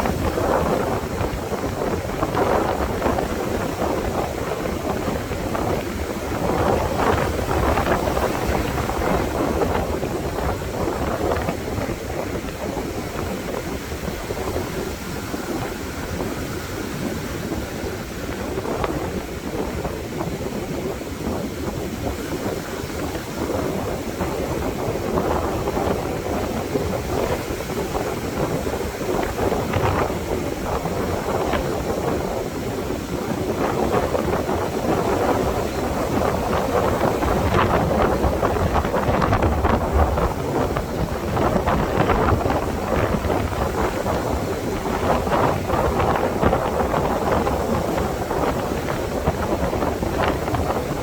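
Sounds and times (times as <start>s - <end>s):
ocean surf breaking: 0.0s - 51.0s
wind buffeting microphone: 0.0s - 51.0s.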